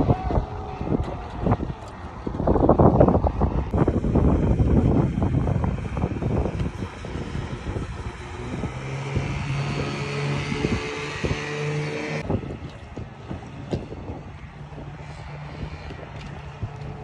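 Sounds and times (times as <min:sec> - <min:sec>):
motorboat engine humming: 0:00.0 - 0:17.0
wind buffeting microphone: 0:00.0 - 0:17.0.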